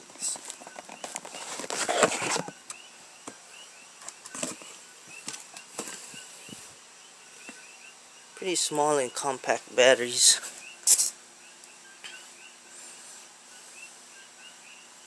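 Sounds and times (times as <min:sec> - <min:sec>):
rustle: 0:00.0 - 0:08.3, 0:10.4 - 0:15.0.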